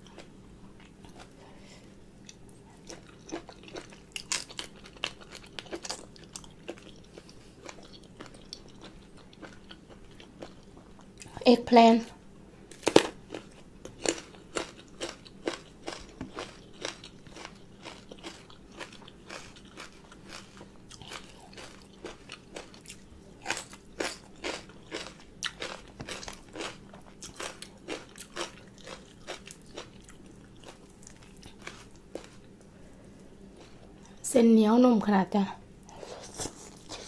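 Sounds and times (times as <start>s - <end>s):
crunching and chewing eggplant: 0.0s - 1.5s, 2.2s - 11.5s, 12.7s - 34.2s, 35.8s - 37.0s.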